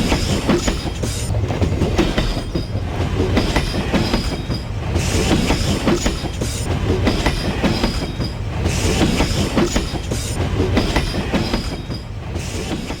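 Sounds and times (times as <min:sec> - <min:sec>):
train rumble: 0:00.0 - 0:13.0
train wheels clattering: 0:00.0 - 0:13.0.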